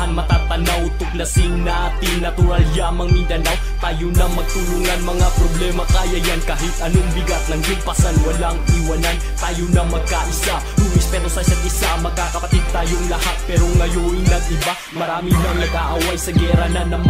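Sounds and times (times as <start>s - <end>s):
music with bass and drums: 0.0s - 17.0s.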